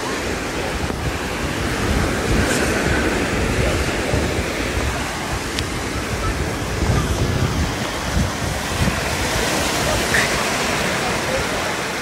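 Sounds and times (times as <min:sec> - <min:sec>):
sea waves washing ashore: 0:00.0 - 0:12.0
wind rumbling on microphone: 0:00.0 - 0:12.0.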